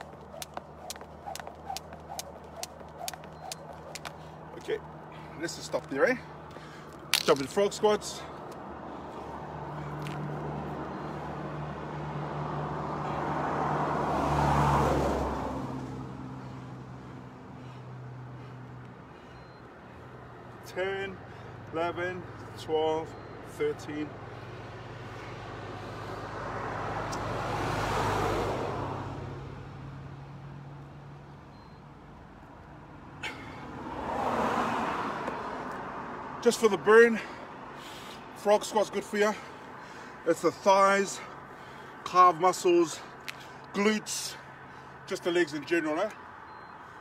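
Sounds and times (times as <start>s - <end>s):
vehicle passing on road: 0.0s - 31.4s, 32.4s - 47.0s.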